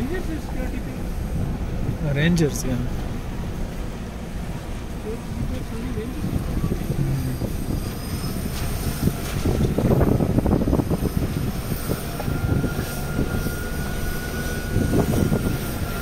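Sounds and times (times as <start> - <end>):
car tyres and engine rumble: 0.0 - 16.0.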